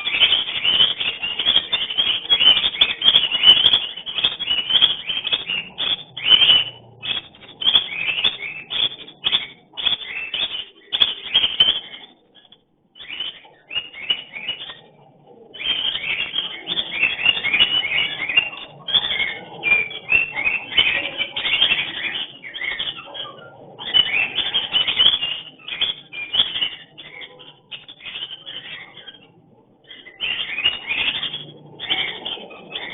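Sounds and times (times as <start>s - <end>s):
cockatiels chirping whistles: 0.0s - 32.9s.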